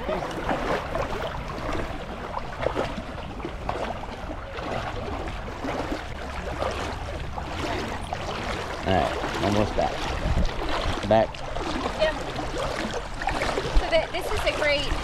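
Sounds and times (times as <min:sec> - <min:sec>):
water sloshing around wading legs: 0:00.0 - 0:15.0.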